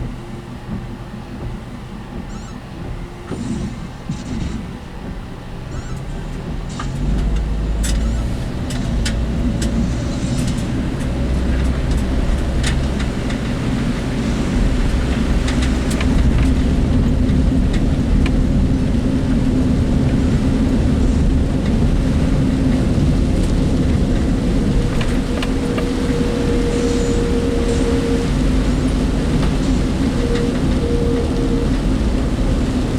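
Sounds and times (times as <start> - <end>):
engine and road rumble: 0.0 - 32.9.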